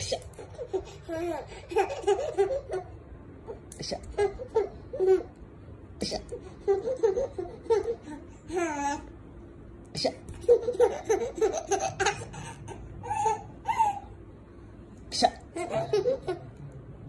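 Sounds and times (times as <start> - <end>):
baby giggling: 0.0 - 5.4, 6.0 - 9.1, 10.0 - 14.2, 15.1 - 16.6.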